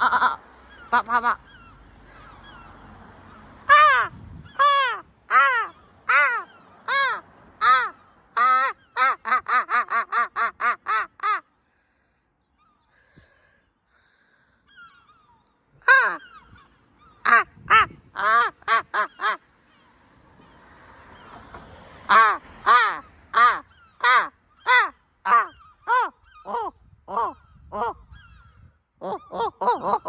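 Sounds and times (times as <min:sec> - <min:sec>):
seagull crying: 0:00.0 - 0:11.5, 0:12.5 - 0:20.0, 0:22.1 - 0:30.0.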